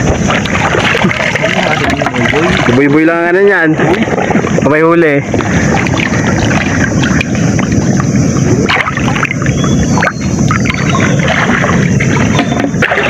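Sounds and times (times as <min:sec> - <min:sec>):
people wading through water: 0:00.0 - 0:13.0.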